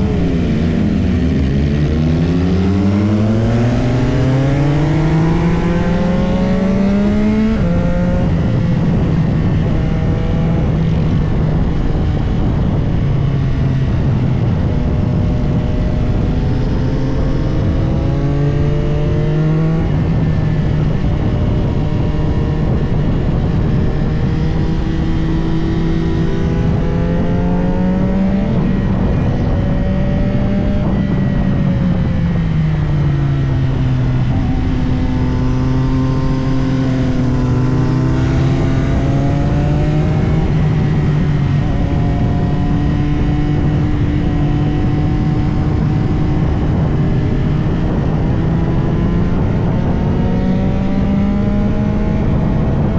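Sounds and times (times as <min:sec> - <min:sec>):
motorcycle engine accelerating: 0:00.0 - 0:52.9
wind noise: 0:00.0 - 0:52.9.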